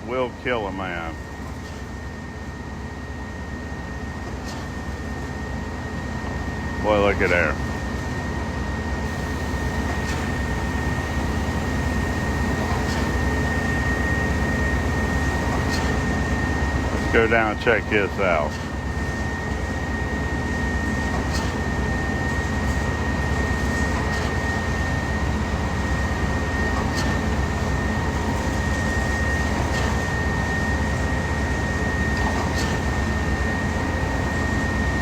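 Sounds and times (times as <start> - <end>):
heavy machinery low hum: 0.0 - 35.0.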